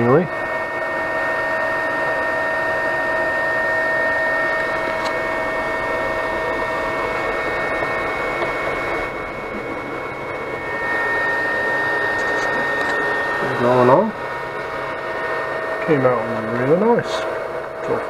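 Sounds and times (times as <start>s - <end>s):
printer cooling fans whirring: 0.0s - 18.0s
steady high tones: 0.0s - 18.0s.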